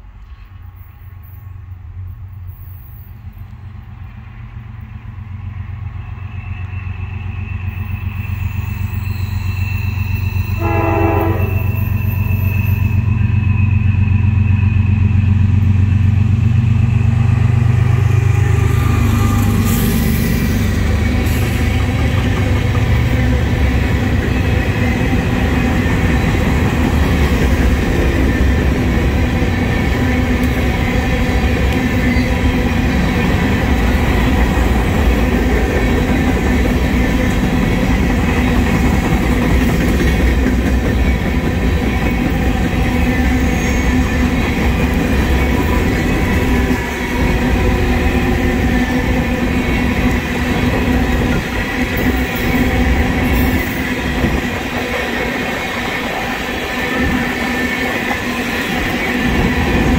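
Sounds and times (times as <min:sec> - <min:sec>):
diesel locomotive engines droning: 0:00.0 - 0:59.9
train wheels rumbling on rails: 0:00.0 - 0:59.9.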